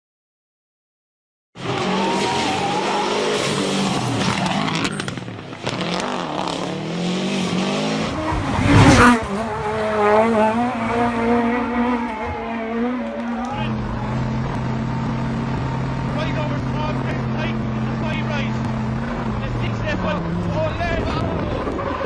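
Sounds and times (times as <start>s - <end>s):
rally car engine revving: 1.6s - 22.0s
tyre and road noise: 1.6s - 22.0s.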